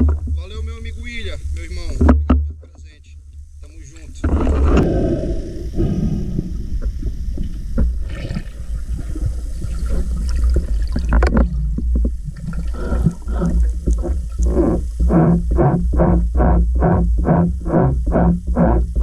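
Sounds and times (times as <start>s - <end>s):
low rumble: 0.0s - 19.0s
water gurgling and sloshing: 0.0s - 19.0s.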